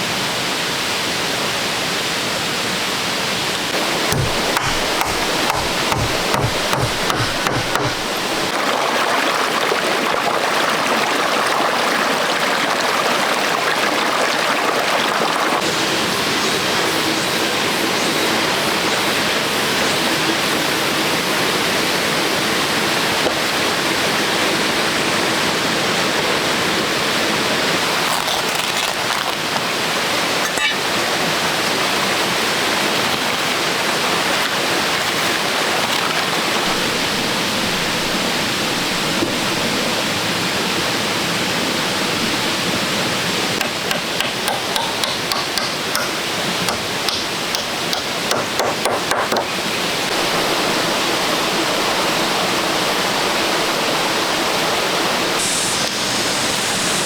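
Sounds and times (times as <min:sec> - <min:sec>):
running water rushing: 0:03.0 - 0:16.8, 0:18.7 - 0:57.0.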